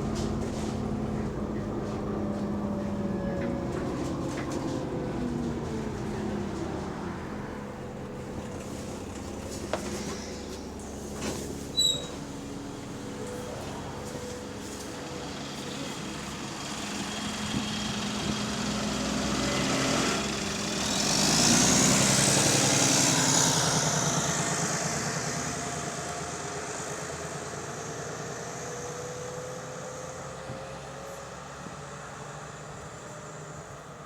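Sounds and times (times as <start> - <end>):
diesel bus engine: 0.0 - 34.0.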